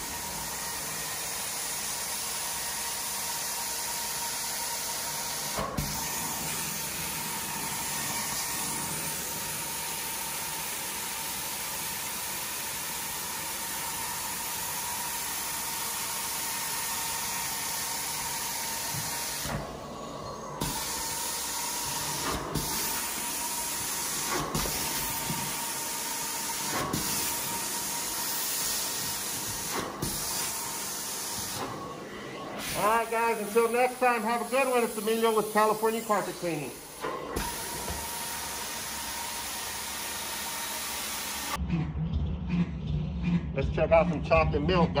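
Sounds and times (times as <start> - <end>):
carpet cleaning wand hissing: 0.0 - 41.6.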